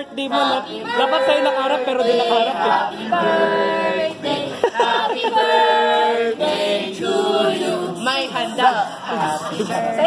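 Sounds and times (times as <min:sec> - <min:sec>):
group singing unaccompanied: 0:00.0 - 0:10.0.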